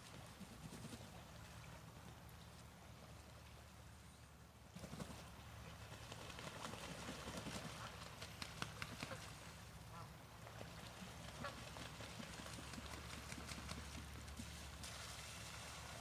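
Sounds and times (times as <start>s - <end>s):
birds splashing and wing-flapping: 0.0s - 3.9s, 4.5s - 16.0s.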